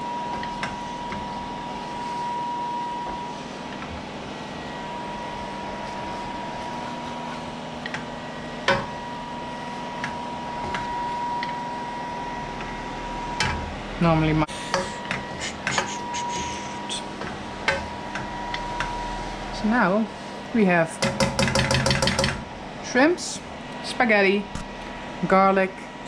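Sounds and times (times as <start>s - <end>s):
extractor fan whirring: 0.0s - 26.0s.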